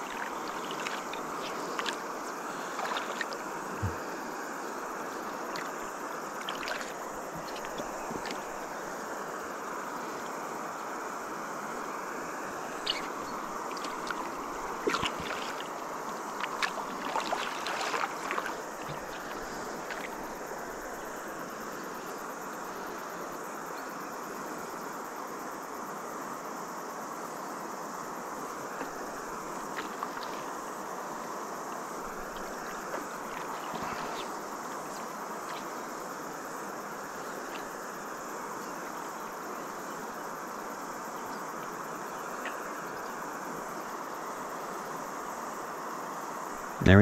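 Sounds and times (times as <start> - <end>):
river water rushing: 0.0 - 22.8, 28.0 - 47.0
cicadas buzzing: 0.0 - 47.0.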